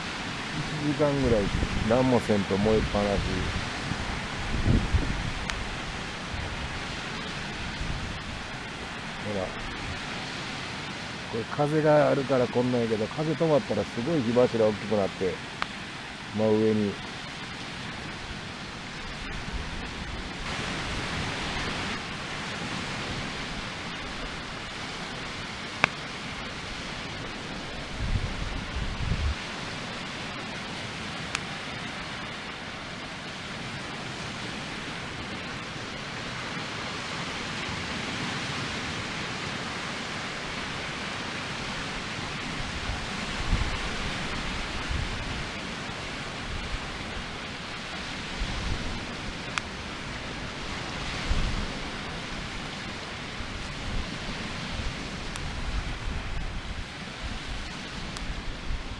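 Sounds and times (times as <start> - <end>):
wind buffeting microphone: 0.0 - 31.4, 33.4 - 58.9
fire burning with hiss: 0.0 - 58.9
fire crackle: 0.0 - 58.9.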